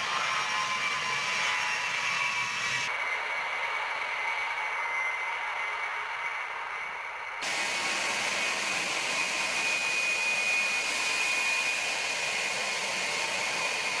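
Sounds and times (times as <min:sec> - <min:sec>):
jet engines rushing and whining: 0:00.0 - 0:14.0.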